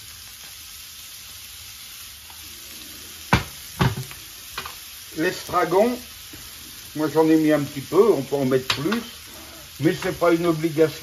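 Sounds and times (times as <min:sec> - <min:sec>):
shallots sizzling in frying pan: 0:00.0 - 0:11.0.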